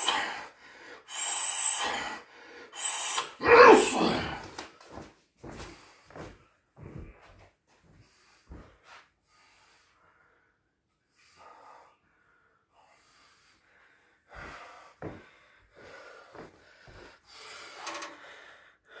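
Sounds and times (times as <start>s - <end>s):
person breathing hard: 0.0s - 4.6s, 5.5s - 19.0s.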